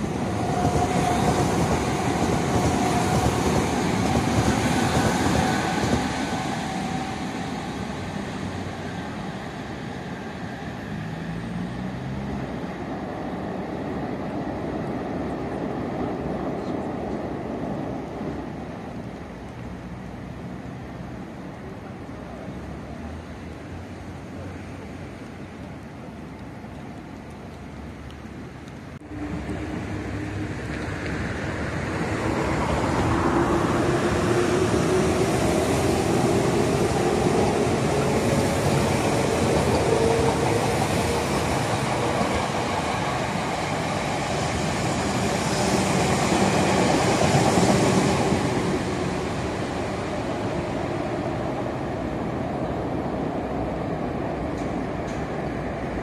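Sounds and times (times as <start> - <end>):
train wheels rumbling on rails: 0.0 - 19.9, 29.0 - 56.0.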